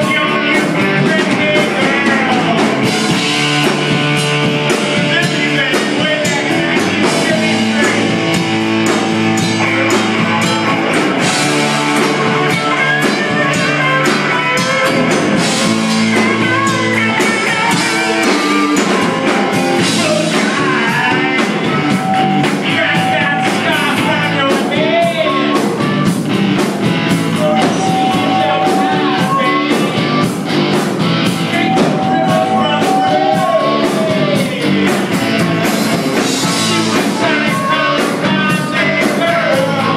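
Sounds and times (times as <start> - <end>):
electric guitar lead line: 0.0 - 39.9
rock band playing: 0.0 - 39.9.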